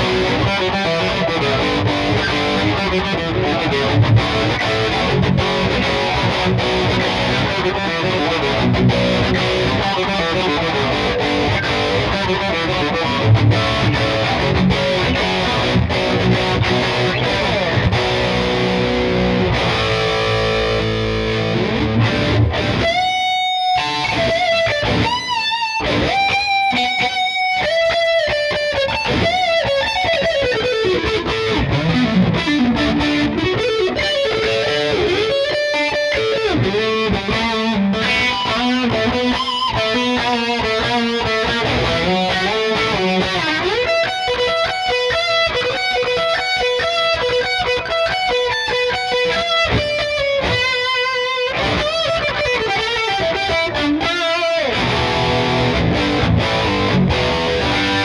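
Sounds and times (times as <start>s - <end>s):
distorted electric guitar solo: 0.0s - 58.0s.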